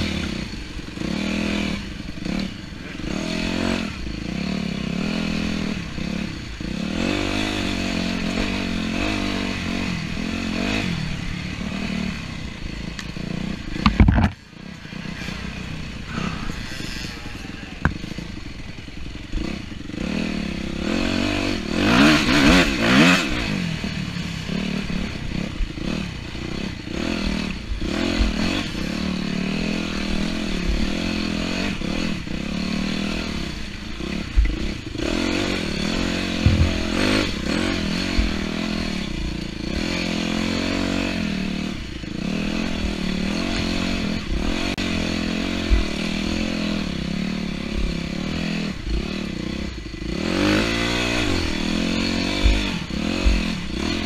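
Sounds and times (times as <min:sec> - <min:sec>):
motorcycle engine running hard: 0:00.0 - 0:54.0.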